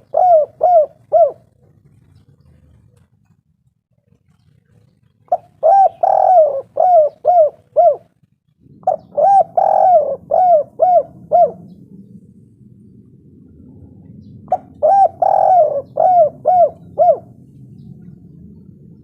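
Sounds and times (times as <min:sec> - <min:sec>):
dove cooing: 0:00.0 - 0:03.1, 0:04.3 - 0:12.3, 0:13.5 - 0:19.0.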